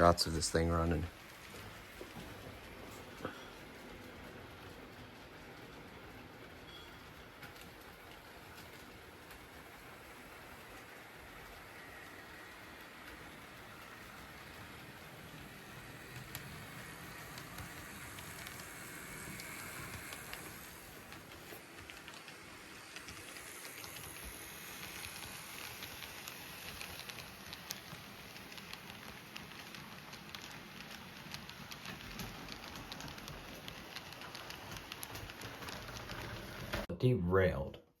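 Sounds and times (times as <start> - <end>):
model locomotive whirring: 0.0 - 36.9
wheels clicking on rails: 0.0 - 36.9.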